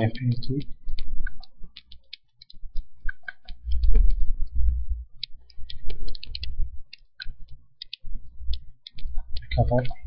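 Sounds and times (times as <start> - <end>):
computer keyboard typing: 0.0 - 10.0
mouse clicks: 0.5 - 4.6, 5.2 - 10.0.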